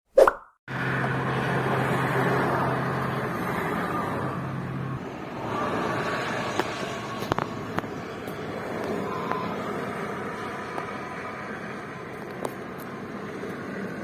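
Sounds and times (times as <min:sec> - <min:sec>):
car engine running: 0:00.7 - 0:14.0.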